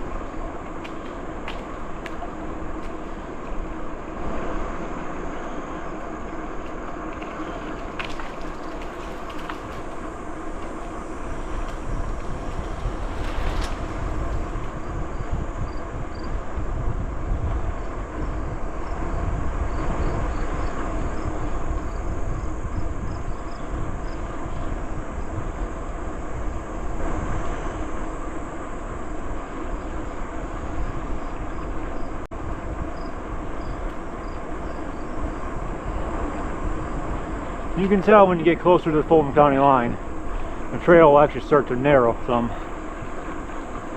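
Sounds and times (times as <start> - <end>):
bicycle tyre noise: 0.0 - 43.9
wind rushing on microphone: 0.0 - 43.9.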